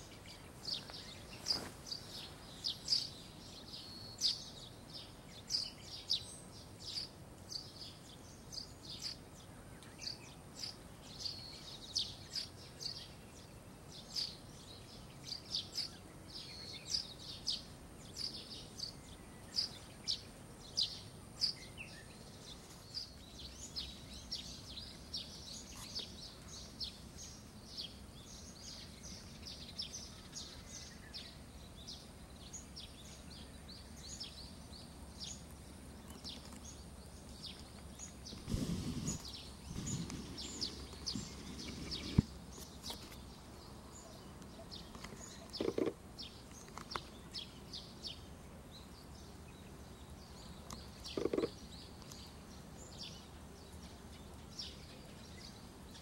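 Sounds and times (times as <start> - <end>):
faint steady background noise: 0.0 - 56.0
small birds chirping: 0.0 - 56.0.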